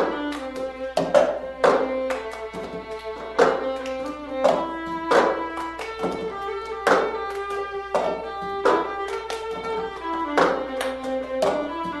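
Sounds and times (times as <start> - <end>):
violin playing fiddle tune: 0.0 - 12.0
plastic cup knocking on wooden table: 0.9 - 1.9, 2.5 - 7.2, 7.9 - 12.0.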